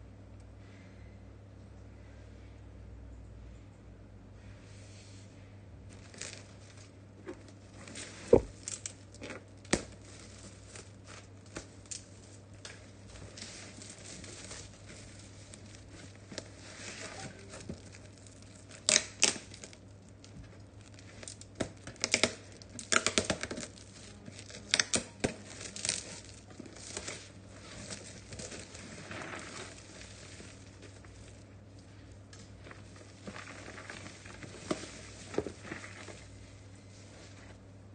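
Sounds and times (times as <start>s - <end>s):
plastic wrapping tearing and crinkling: 5.9s - 37.6s.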